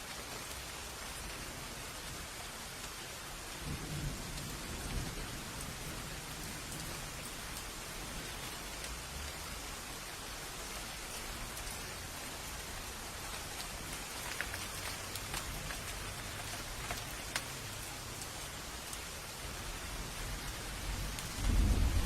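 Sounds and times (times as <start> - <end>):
rain falling: 0.0 - 22.0
individual raindrops striking: 3.7 - 22.0.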